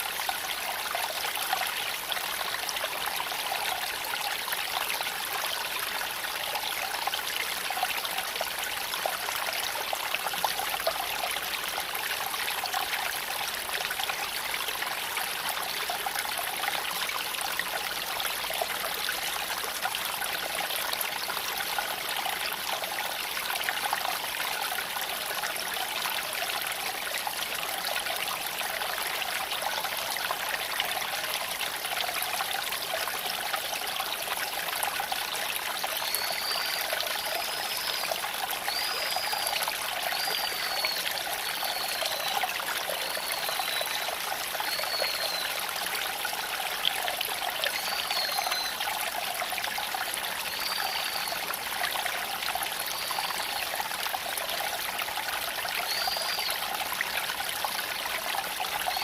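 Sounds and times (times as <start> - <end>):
creek flowing over stones: 0.0 - 59.0.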